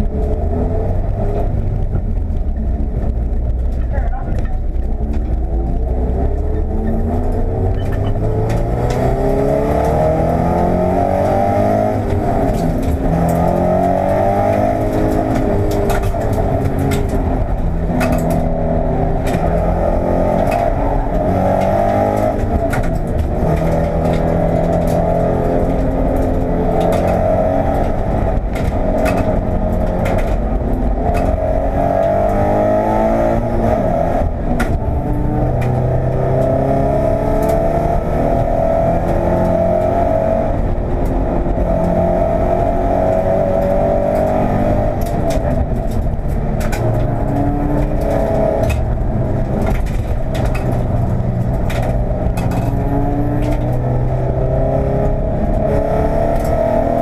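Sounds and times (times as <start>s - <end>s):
car engine accelerating through gears: 0.0s - 57.0s
sharp clicks and rattles: 0.0s - 57.0s.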